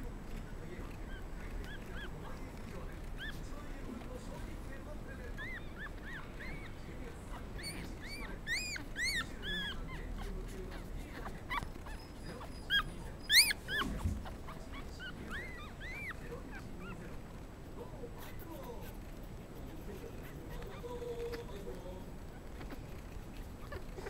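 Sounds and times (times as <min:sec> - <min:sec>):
puppies squeaking and whimpering: 0:00.0 - 0:24.0.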